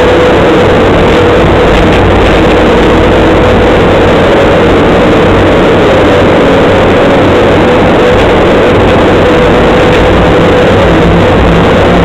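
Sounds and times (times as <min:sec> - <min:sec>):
loader engine droning with whine: 0:00.0 - 0:12.0.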